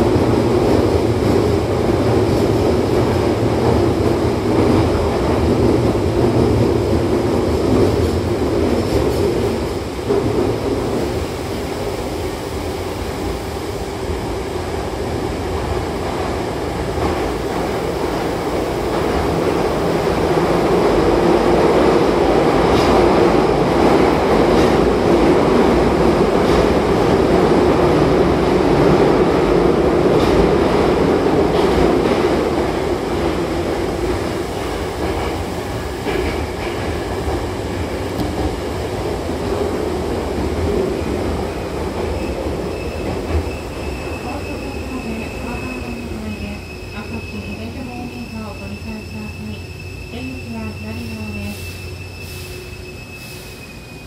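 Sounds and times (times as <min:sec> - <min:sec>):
train rumbling in tunnel: 0:00.0 - 0:54.0.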